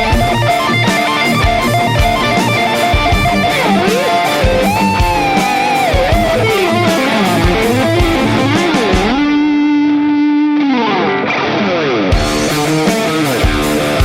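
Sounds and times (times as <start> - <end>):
drum loop: 0.0 - 9.9, 12.1 - 14.0
distorted electric guitar lead: 0.0 - 14.0.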